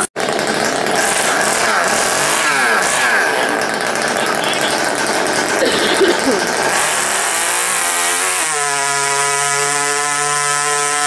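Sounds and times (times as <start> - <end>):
toy tractor motor whining: 0.0 - 11.0.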